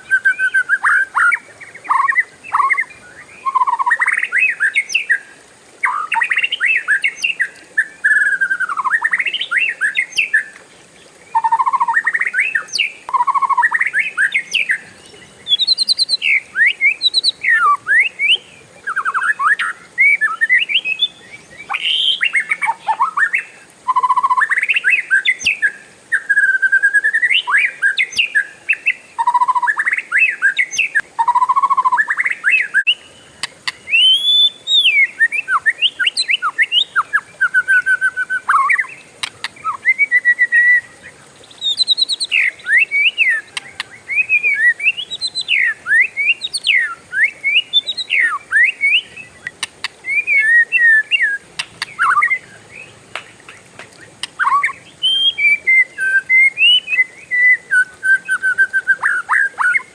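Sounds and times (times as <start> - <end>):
songbird singing whistled phrases: 0.0 - 10.6, 11.3 - 59.9.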